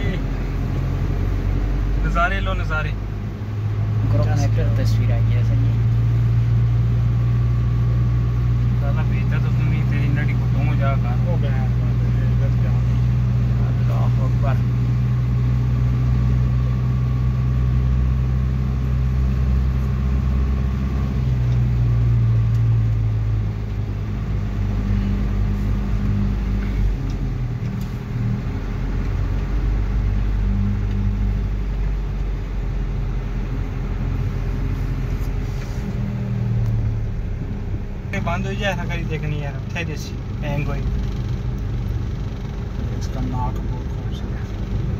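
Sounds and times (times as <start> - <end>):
car engine and road drone: 0.0 - 44.9.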